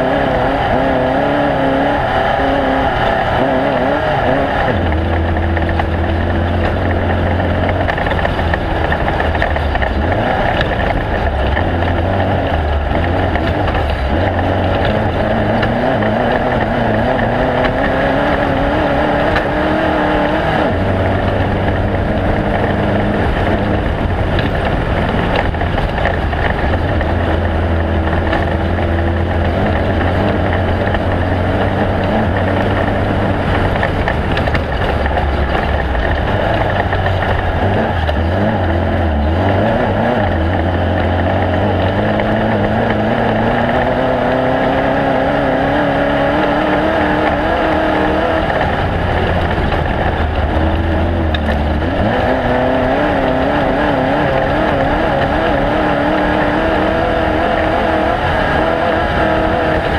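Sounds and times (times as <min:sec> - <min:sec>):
loud engine running: 0:00.0 - 0:59.9.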